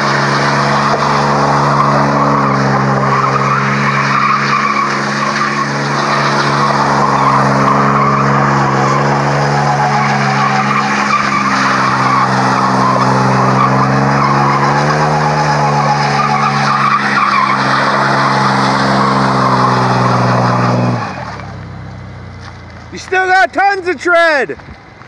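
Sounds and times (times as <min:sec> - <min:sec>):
engine revving high: 0:00.0 - 0:21.4
tires squealing on asphalt: 0:00.0 - 0:25.0.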